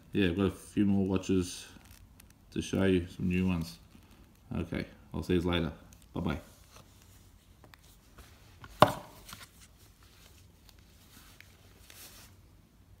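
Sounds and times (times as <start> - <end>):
soft rustle: 0.0 - 12.8.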